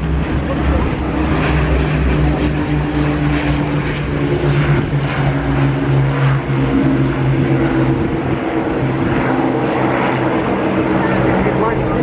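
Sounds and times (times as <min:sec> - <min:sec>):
piston aircraft engines droning: 0:00.0 - 0:12.0.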